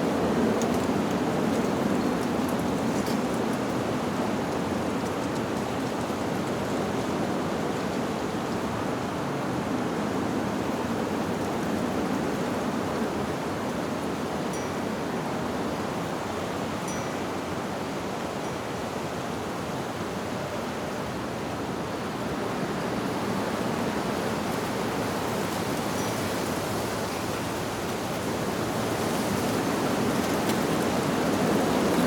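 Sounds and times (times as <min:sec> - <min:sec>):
wind rustling leaves: 0:00.0 - 0:32.0.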